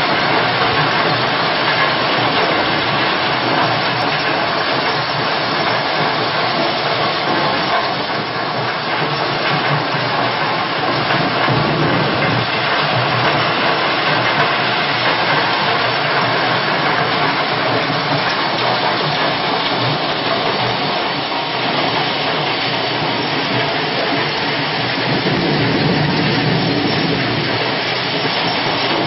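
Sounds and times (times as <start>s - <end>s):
stone crusher and conveyor running: 0.0s - 29.0s.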